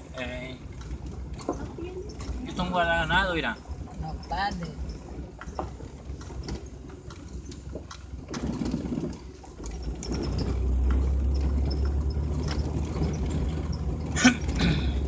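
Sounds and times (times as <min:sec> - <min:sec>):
vehicle engine and road rumble: 0:00.0 - 0:15.0
knocks and rattles: 0:00.2 - 0:15.0.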